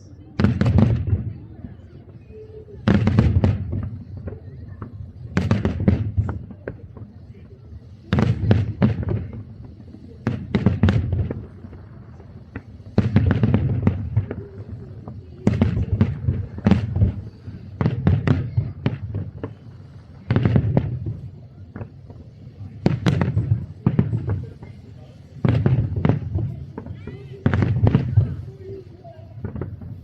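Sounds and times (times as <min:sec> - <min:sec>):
fireworks sharp bangs: 0:00.0 - 0:30.0.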